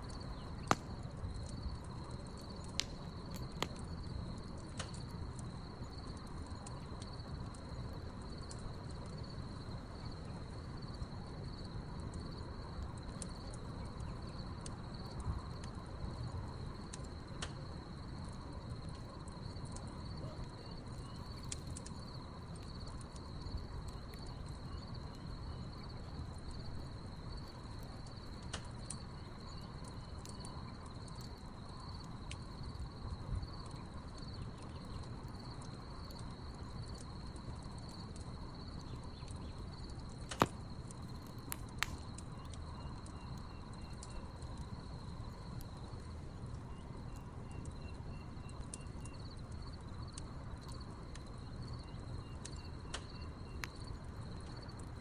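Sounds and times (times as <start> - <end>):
campfire crackling and popping: 0.0 - 55.0
crickets trilling: 0.0 - 55.0
pulsing insect chirp: 9.2 - 55.0.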